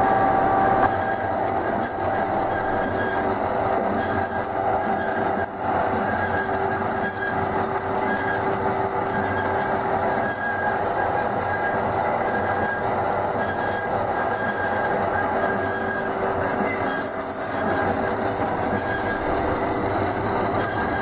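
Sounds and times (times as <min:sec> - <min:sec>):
band saw running: 0:00.0 - 0:21.0.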